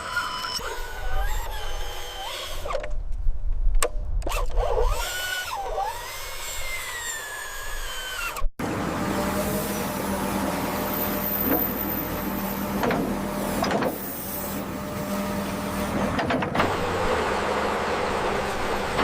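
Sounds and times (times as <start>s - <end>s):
small electric motors whining: 0.0s - 2.9s, 4.2s - 16.0s, 16.6s - 19.0s.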